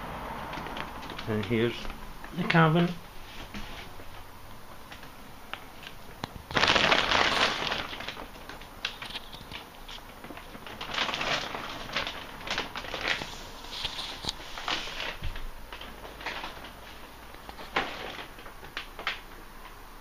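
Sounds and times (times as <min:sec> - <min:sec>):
crackling rustling noise: 0:00.3 - 0:20.0.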